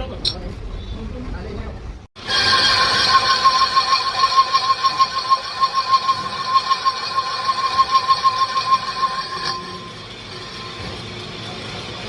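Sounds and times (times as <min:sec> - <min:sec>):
wood lathe whining: 0:02.2 - 0:12.0.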